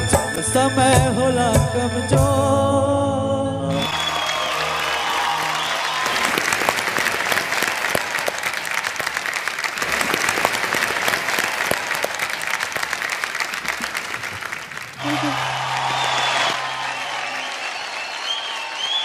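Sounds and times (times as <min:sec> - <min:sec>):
crowd applauding: 0:03.7 - 0:19.0.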